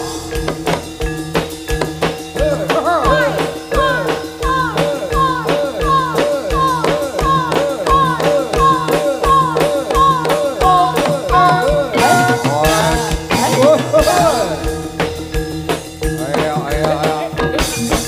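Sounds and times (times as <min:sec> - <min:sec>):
held tones: 0:00.0 - 0:18.0
low drum beating: 0:00.0 - 0:18.0.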